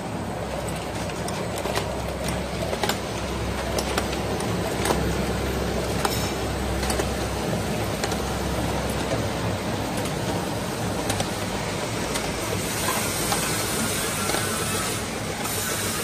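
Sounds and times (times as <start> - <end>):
machine motor hum: 0.0 - 16.0.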